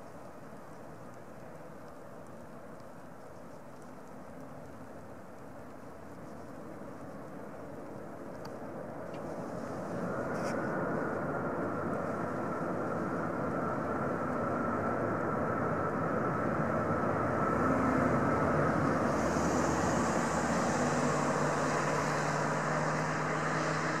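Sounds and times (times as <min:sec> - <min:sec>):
jet engines running: 0:00.0 - 0:24.0.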